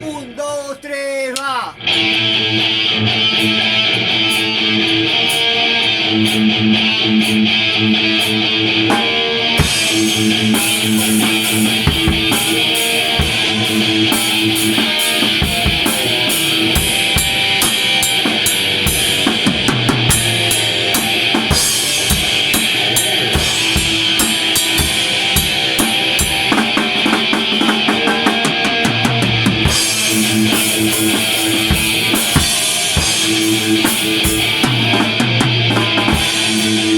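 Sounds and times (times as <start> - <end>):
distorted electric guitar: 0.0 - 36.9
drum kit: 7.2 - 36.9.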